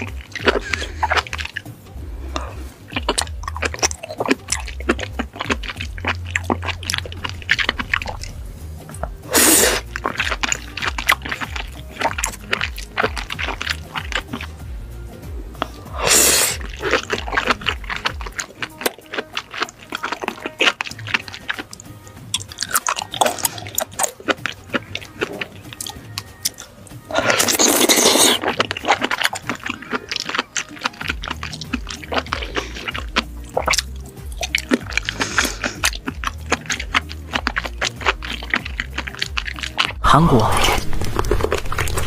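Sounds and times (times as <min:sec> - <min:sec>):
background music with bass: 0:00.0 - 0:42.0
wet chewing: 0:00.0 - 0:42.0
wet slurping: 0:00.0 - 0:42.0.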